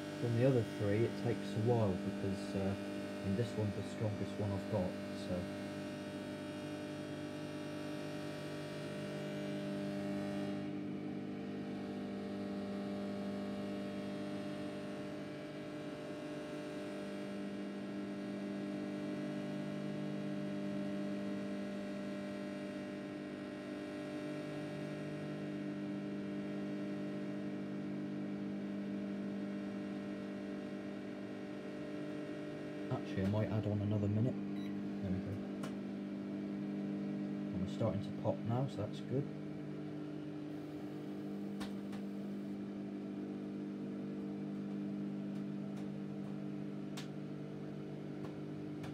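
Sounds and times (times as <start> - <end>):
microwave oven humming: 0.0 - 48.9.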